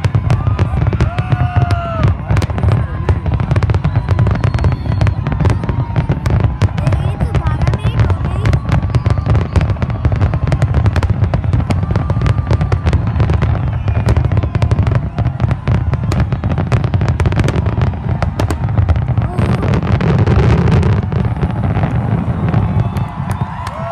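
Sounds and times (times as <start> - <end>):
fireworks bursting: 0.0 - 23.9.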